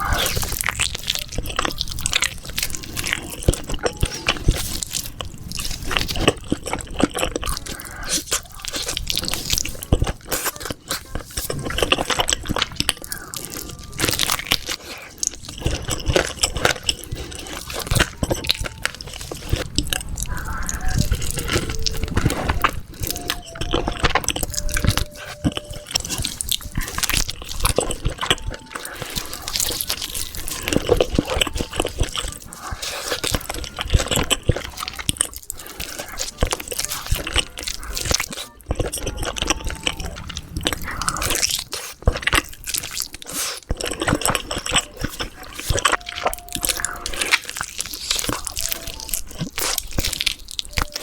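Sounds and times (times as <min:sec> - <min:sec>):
person chewing with crunches: 0:00.0 - 0:51.0.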